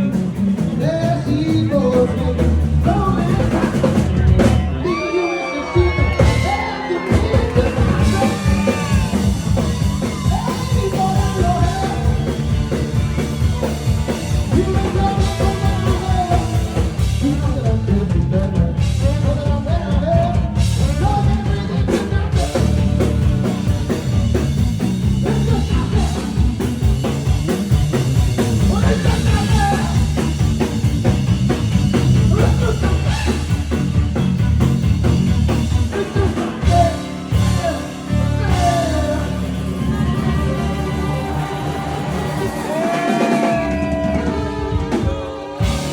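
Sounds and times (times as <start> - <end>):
person singing: 0.0 - 24.6, 25.2 - 27.2, 32.2 - 33.7, 35.9 - 45.9
rock band playing live: 0.0 - 45.9.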